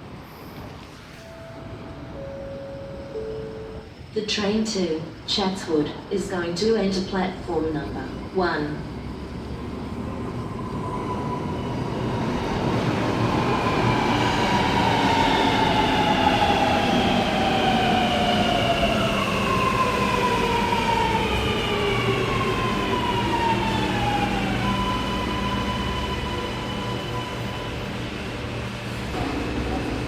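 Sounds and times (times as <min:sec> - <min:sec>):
metro train braking: 0:00.0 - 0:06.3, 0:07.0 - 0:30.0.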